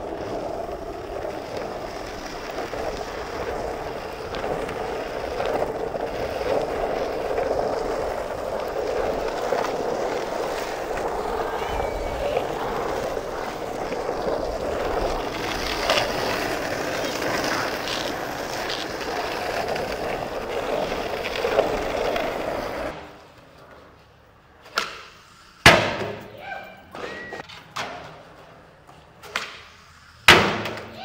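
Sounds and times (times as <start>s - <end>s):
skateboard wheels rolling on pavement: 0.0s - 31.0s.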